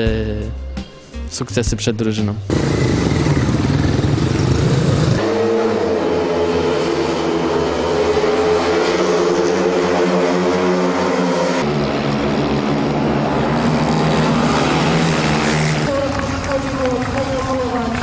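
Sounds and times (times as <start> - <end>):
motorcycle engines racing: 2.5 - 18.0.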